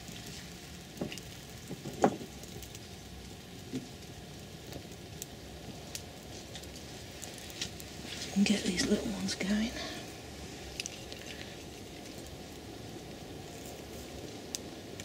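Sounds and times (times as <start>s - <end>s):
light rain pattering: 0.0s - 15.0s
wood fire crackling and popping: 0.0s - 15.0s.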